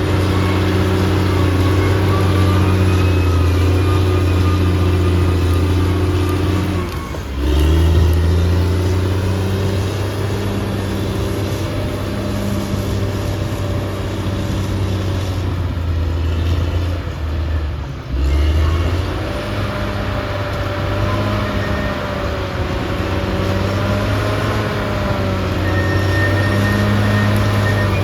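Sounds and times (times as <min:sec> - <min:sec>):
bulldozer diesel engine drone: 0:00.0 - 0:28.0.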